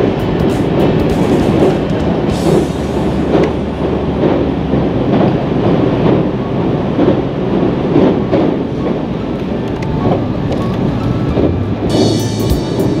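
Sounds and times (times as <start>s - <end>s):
train rumble on bridge: 0.0s - 13.0s
train wheel clack: 0.0s - 13.0s.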